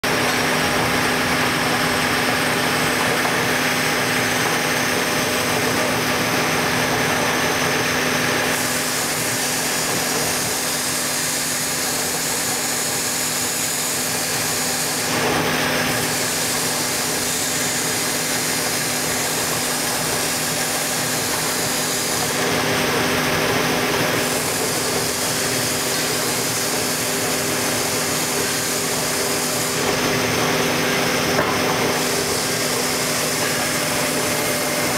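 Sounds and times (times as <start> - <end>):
router spindle humming: 0.0 - 34.9.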